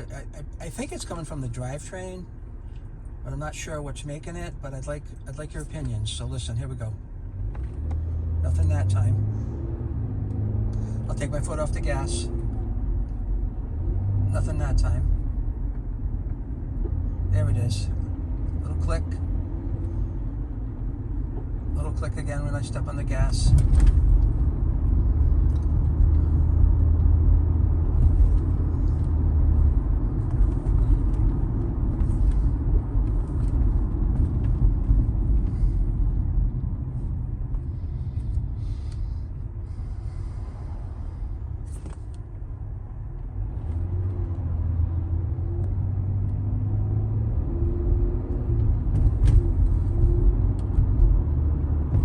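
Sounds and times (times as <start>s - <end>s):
road and engine rumble: 0.0s - 52.0s.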